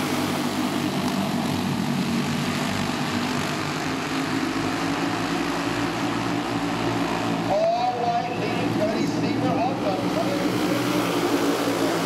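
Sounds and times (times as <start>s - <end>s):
many kart engines droning: 0.0s - 12.0s.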